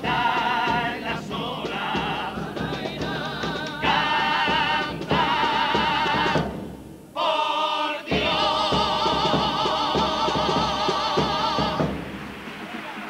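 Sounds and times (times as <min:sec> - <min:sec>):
male choir singing: 0:00.0 - 0:06.6, 0:07.2 - 0:12.0.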